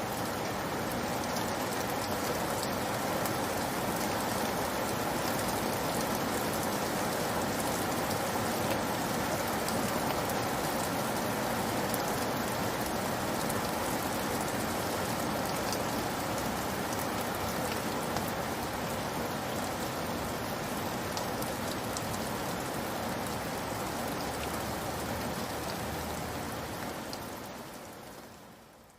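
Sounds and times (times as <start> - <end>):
steady rainfall: 0.0 - 28.9.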